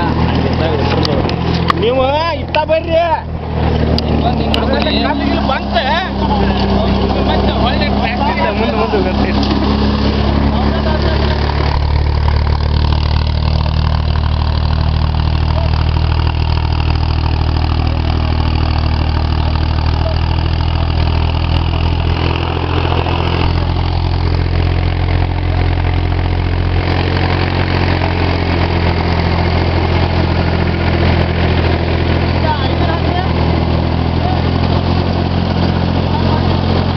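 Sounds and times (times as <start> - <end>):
tractor engine running steadily: 0.0 - 36.9.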